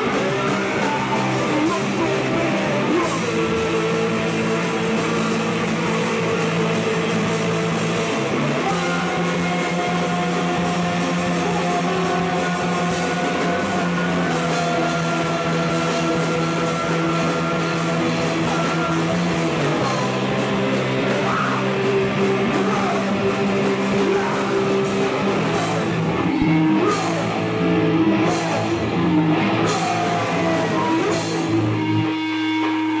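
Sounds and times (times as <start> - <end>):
bass guitar: 0.0 - 33.0
drums playing steady beat: 0.0 - 33.0
electric guitar: 0.0 - 33.0.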